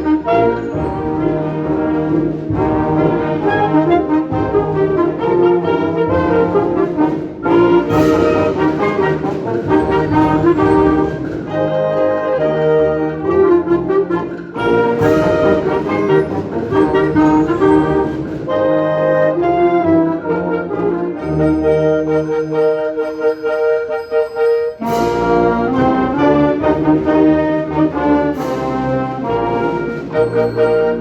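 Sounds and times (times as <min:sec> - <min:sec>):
wind band playing: 0:00.0 - 0:31.0.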